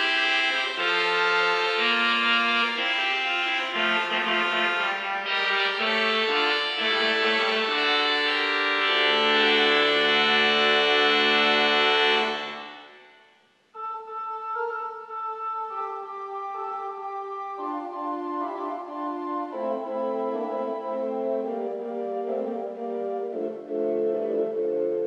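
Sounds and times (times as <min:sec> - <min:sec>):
pipe organ playing: 0:00.0 - 0:13.0, 0:13.8 - 0:25.0.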